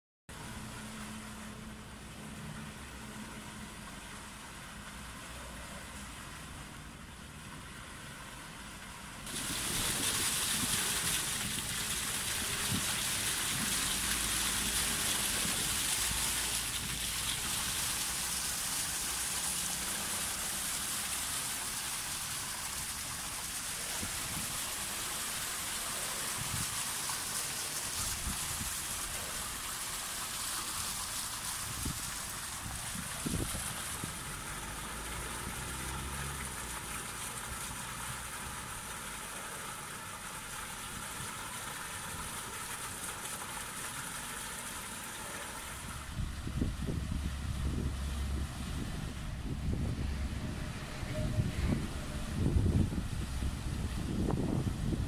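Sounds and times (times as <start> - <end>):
fountain water spraying and splashing: 0.3 - 55.0.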